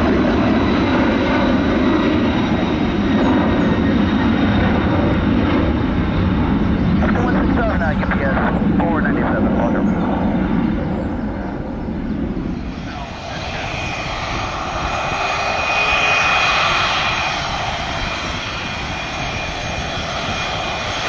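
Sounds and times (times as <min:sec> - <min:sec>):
departing jet rumble: 0:00.0 - 0:21.0
jet engines whining while taxiing: 0:00.0 - 0:21.0.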